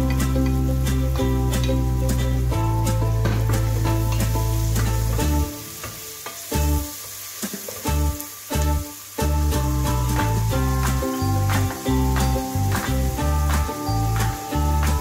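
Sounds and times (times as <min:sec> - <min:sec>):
background music: 0:00.0 - 0:07.0, 0:07.8 - 0:15.0
vegetables sizzling in oil: 0:00.0 - 0:15.0.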